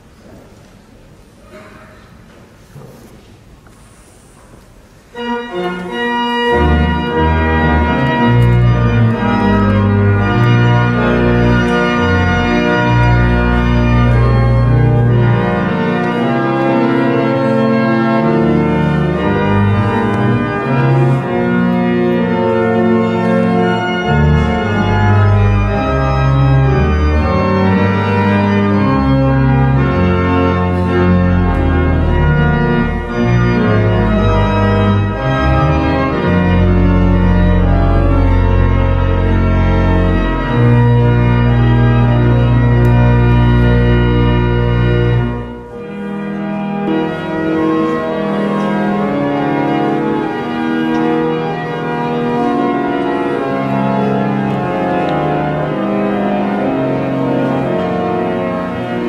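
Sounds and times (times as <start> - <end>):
pipe organ playing chords: 4.9 - 59.0.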